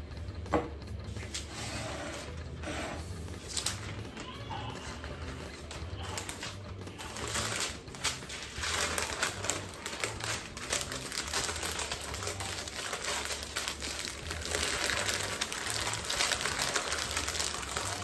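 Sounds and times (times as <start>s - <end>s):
parchment paper crinkling: 3.4s - 18.0s.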